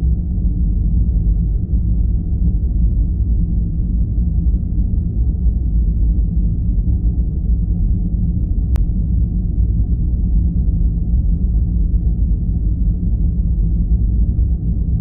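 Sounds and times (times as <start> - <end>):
deep rumbling noise: 0.0 - 15.0.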